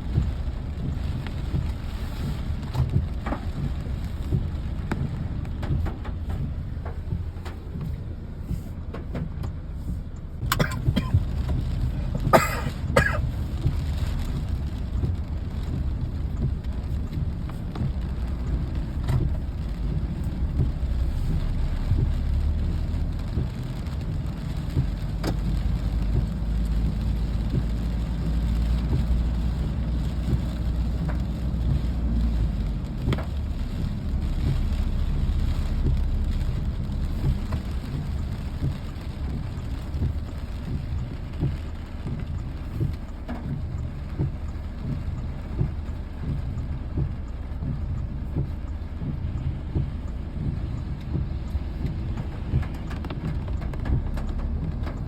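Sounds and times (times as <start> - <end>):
deep low rumble: 0.0 - 55.0
steady rain: 0.0 - 55.0.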